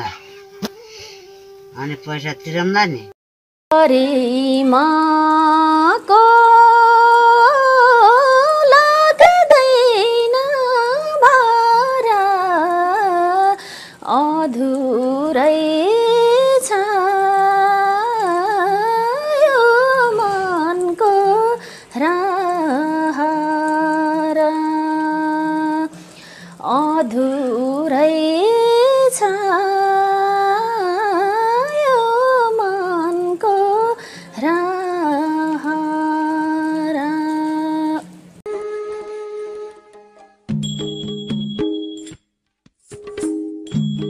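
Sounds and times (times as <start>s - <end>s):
woman singing slow melody: 3.7s - 39.4s.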